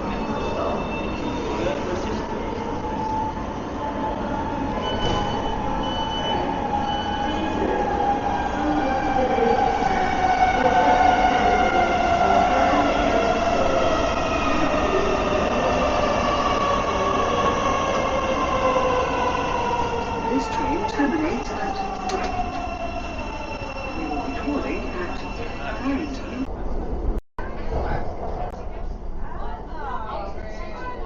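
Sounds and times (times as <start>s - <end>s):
train carriage rumble: 0.0s - 29.5s.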